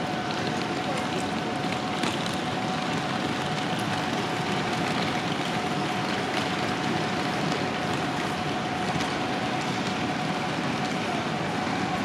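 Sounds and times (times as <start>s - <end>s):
constant whine: 0.0s - 12.0s.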